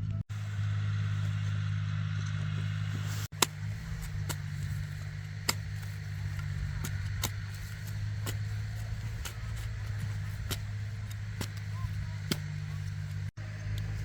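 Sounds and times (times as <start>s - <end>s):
small engine running: 0.3s - 14.0s.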